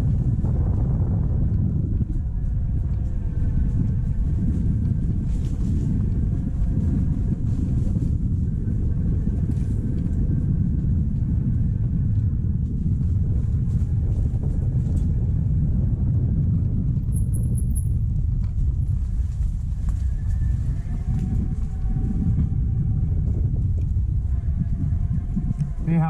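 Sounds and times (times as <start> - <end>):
low rumble over bumpy ground: 0.0 - 26.0.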